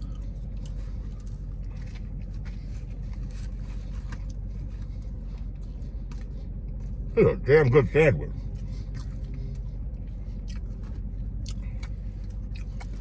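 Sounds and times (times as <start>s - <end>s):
faint chewing: 0.0s - 7.1s, 8.3s - 13.0s
car engine idling: 0.0s - 13.0s.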